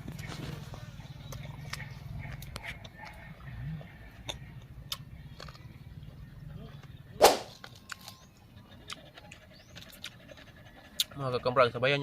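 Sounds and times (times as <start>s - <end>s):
wet chewing clicks: 0.0s - 7.0s, 7.6s - 11.4s.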